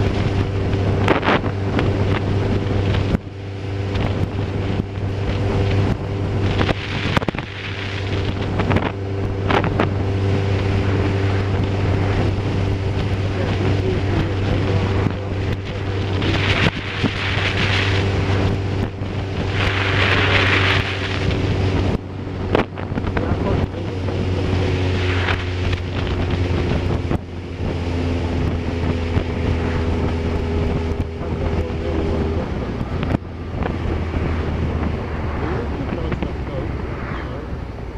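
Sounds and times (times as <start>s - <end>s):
engine droning: 0.0s - 37.9s
wind noise on microphone: 0.0s - 37.9s.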